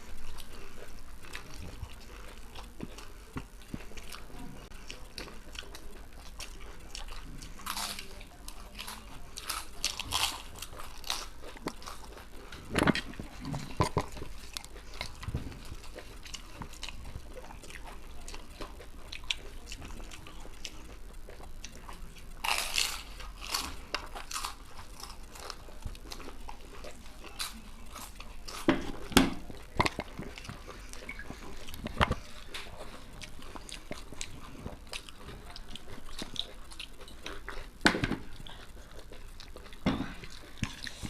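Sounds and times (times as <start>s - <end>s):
crunchy food chewing: 0.0s - 41.0s.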